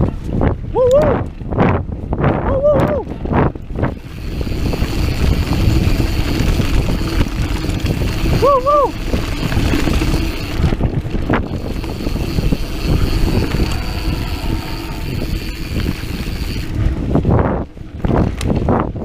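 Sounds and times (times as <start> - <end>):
mountain bike rumbling on dirt: 0.0 - 19.0
wind buffeting microphone: 0.0 - 19.0.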